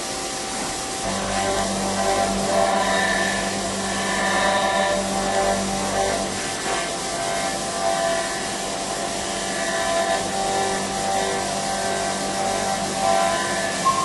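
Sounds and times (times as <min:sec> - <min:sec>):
cnc machine running: 0:00.0 - 0:14.0.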